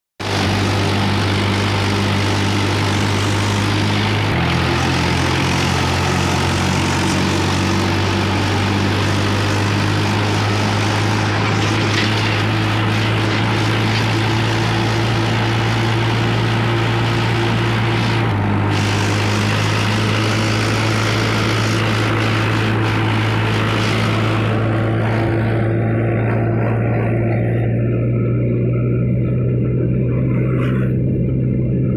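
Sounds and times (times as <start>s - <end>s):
tractor diesel engine drone: 0.2s - 31.9s.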